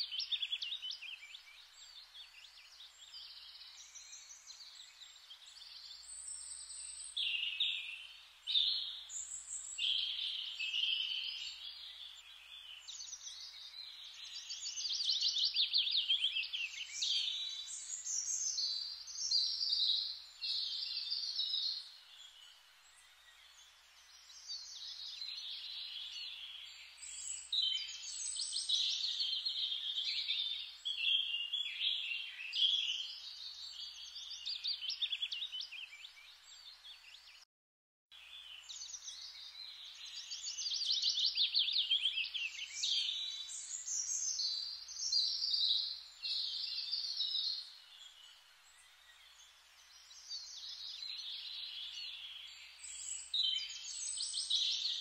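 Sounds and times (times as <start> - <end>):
songbirds chirping and trilling: 0.0 - 37.4, 38.1 - 55.0.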